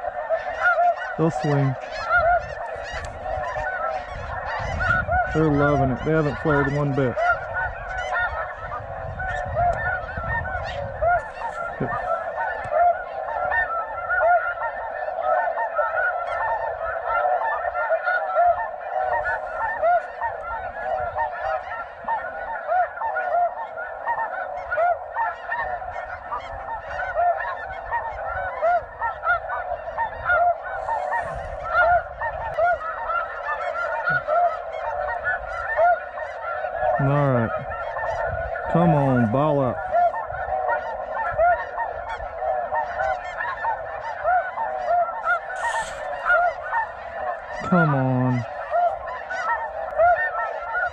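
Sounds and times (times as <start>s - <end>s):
geese honking chorus: 0.0s - 50.9s.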